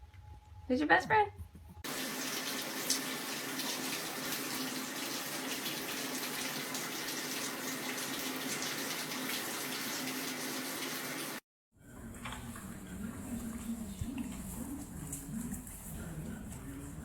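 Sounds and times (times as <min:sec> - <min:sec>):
tap water running: 0:01.8 - 0:17.0.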